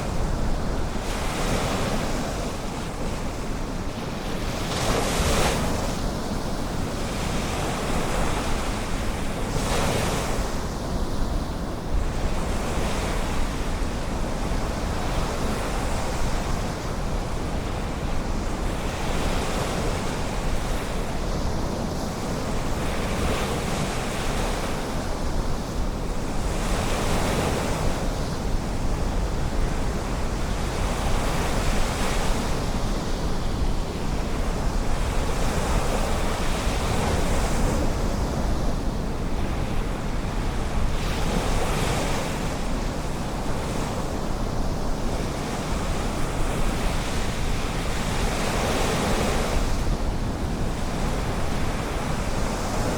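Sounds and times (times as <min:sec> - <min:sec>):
waves breaking and washing in: 0:00.0 - 0:52.9
wind rumble on microphone: 0:00.0 - 0:52.9.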